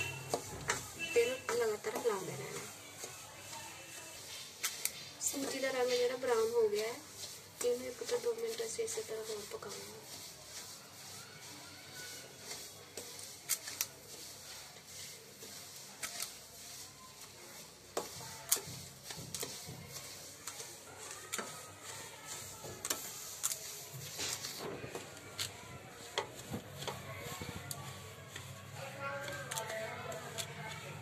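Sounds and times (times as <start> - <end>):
spatula scraping pan: 0.0 - 31.0.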